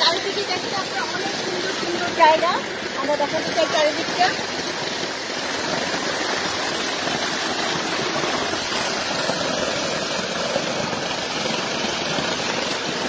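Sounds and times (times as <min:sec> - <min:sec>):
fountain jets rushing: 0:00.0 - 0:13.0
water flowing over pebbles: 0:00.0 - 0:13.0.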